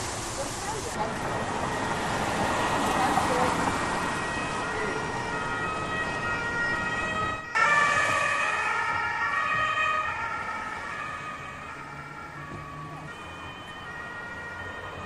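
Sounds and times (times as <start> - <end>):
street noise: 0.0 - 15.0
emergency vehicle siren: 0.7 - 15.0.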